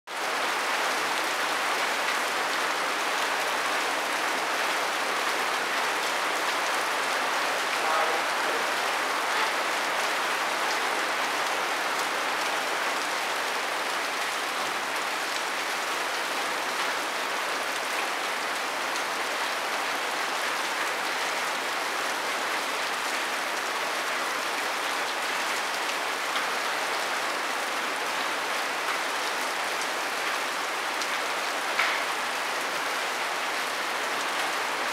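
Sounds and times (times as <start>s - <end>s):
rain on thatch roof: 0.0s - 34.9s.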